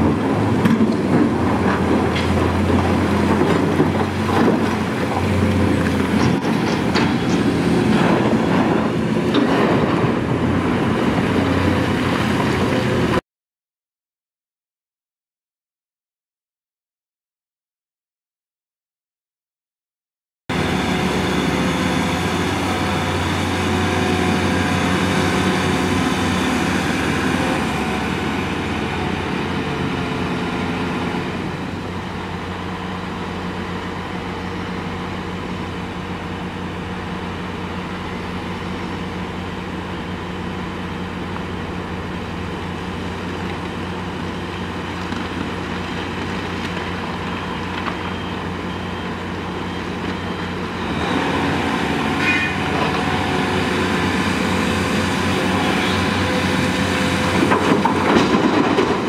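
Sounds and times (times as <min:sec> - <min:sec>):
excavator diesel engine droning: 0:00.0 - 0:13.2, 0:20.5 - 0:59.0.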